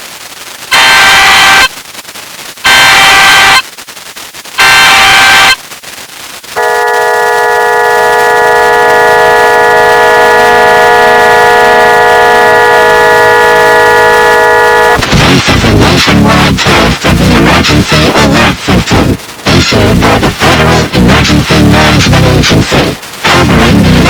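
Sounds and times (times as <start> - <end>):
harsh data bursts: 0.0 - 24.0.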